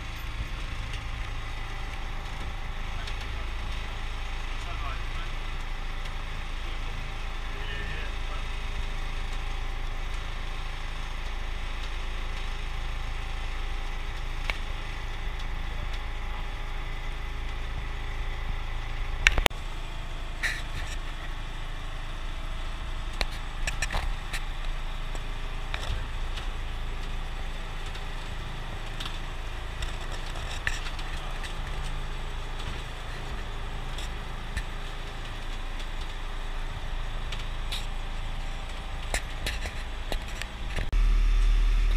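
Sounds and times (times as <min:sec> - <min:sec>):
boat motor running: 0:00.0 - 0:41.9.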